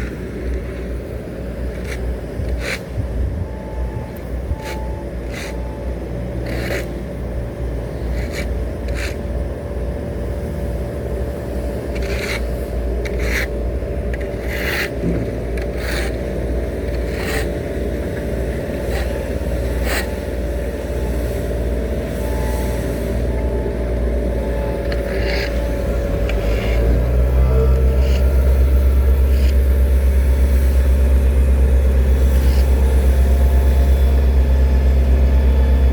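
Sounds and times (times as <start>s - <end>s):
heavy machinery engine rumble: 0.0s - 35.9s.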